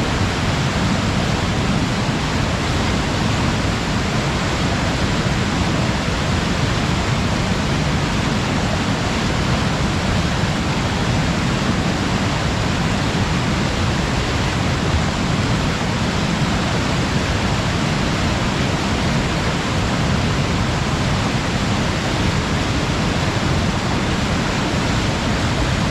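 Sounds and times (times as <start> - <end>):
water rushing over rocks: 0.0 - 25.9.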